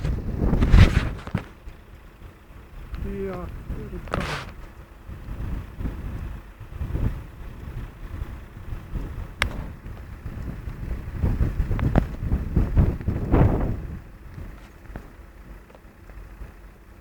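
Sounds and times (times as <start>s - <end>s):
wind buffeting microphone: 0.0s - 15.6s
low rumbling: 0.0s - 17.0s.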